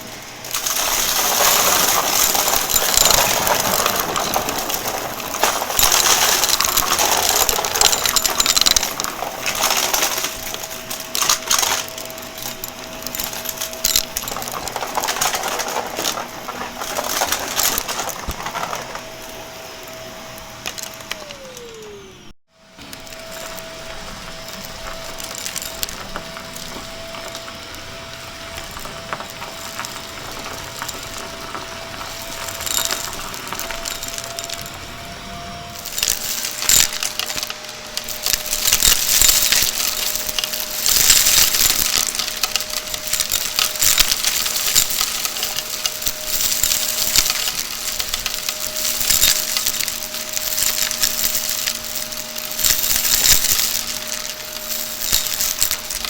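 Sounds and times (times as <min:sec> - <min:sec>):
debris crackling in vacuum: 0:00.0 - 0:56.0
vacuum cleaner motor whine: 0:00.0 - 0:56.0.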